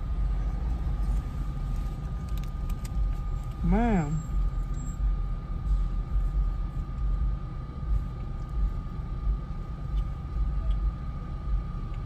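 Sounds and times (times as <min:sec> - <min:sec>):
car engine rumble: 0:00.0 - 0:12.0
faint steady hum: 0:00.0 - 0:12.0.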